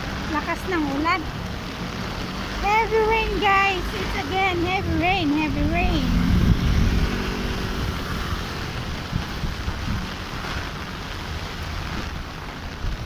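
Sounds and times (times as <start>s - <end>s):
vehicle engine: 0.0s - 12.2s
heavy rain falling: 0.0s - 13.0s
wind rumbling on microphone: 0.0s - 13.0s.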